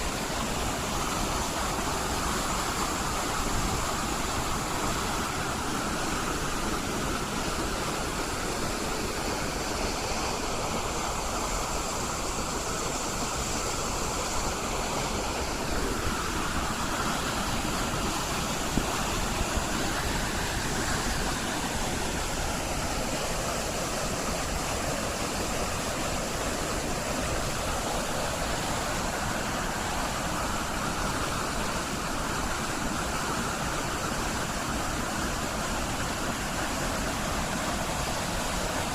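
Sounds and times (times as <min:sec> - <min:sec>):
rushing whitewater: 0:00.0 - 0:38.9.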